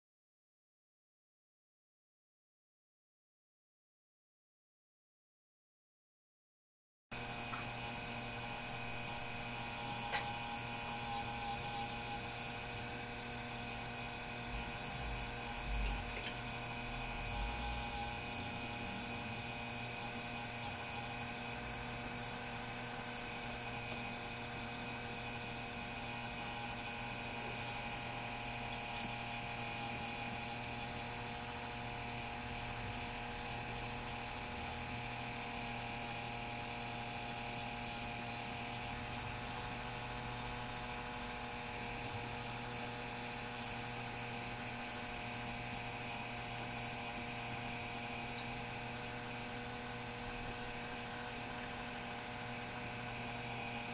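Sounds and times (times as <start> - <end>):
model chairlift motor whine: 7.2 - 53.9.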